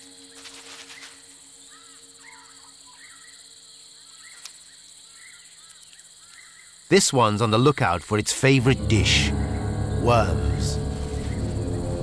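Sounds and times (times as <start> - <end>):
insect trill: 0.0 - 12.0
small birds chirping: 0.1 - 12.0.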